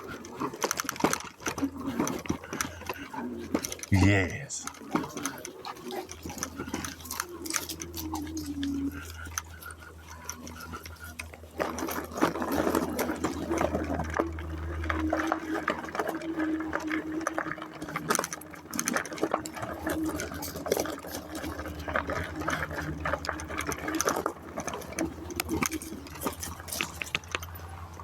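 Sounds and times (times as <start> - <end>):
bicycle rattling and clicking: 0.0 - 3.9, 4.7 - 28.0.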